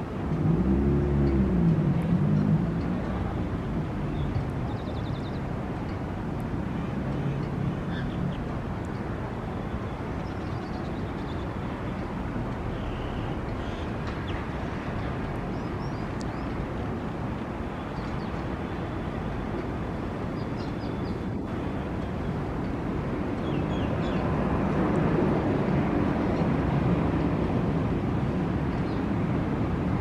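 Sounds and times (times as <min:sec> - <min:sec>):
low rumble of city traffic: 0:00.0 - 0:30.0.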